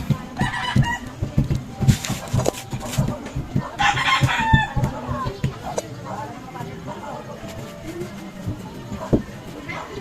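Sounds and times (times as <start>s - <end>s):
low irregular thumping: 0.0s - 10.0s.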